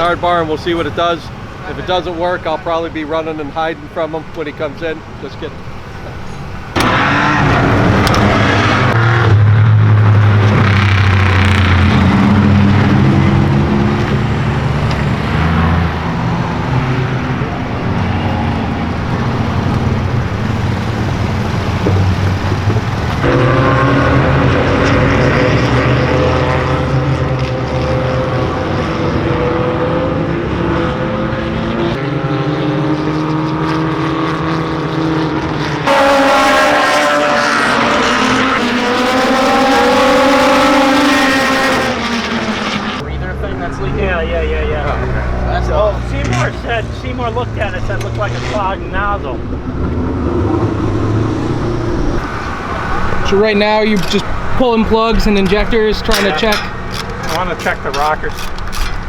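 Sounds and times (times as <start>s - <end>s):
race car engines: 0.0s - 59.0s.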